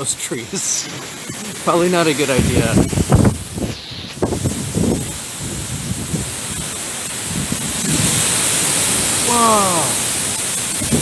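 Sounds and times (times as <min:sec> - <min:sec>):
leaves rustling: 0:00.0 - 0:11.0
wind gusting through trees: 0:00.0 - 0:11.0
wind buffeting microphone: 0:01.0 - 0:11.0.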